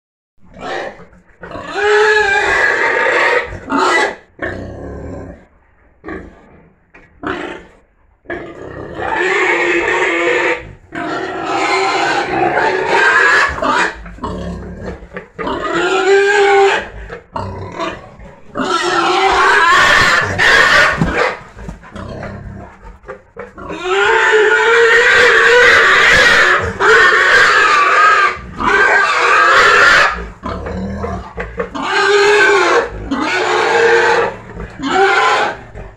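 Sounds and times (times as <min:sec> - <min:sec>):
pigs calling loudly: 0:00.5 - 0:05.5, 0:07.2 - 0:35.9.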